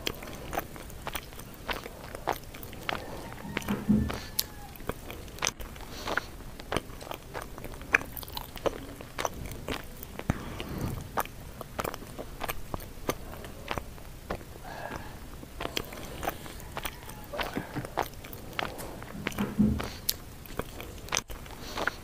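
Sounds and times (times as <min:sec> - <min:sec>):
chewing with wet crunches: 0:00.0 - 0:22.0
mouth clicks: 0:00.0 - 0:22.0.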